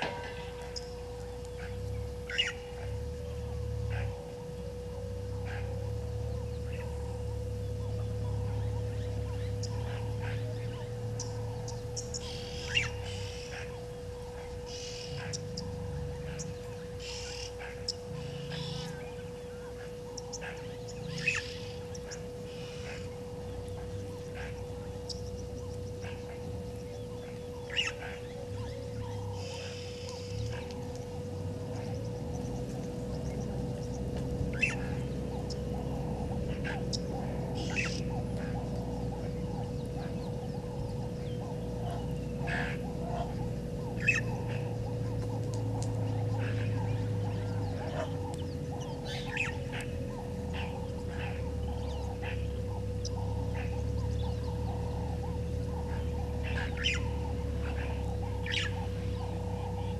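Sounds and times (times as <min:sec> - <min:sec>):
bird chirps and calls: 0:00.0 - 0:04.2, 0:04.9 - 0:59.9
steady hum: 0:00.0 - 0:59.9.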